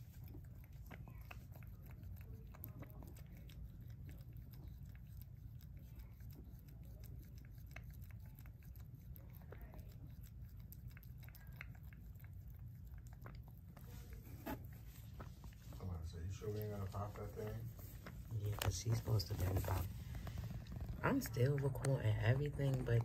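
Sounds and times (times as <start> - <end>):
low steady rumble: 0.0 - 23.0
wet licking and chewing clicks: 0.0 - 23.0.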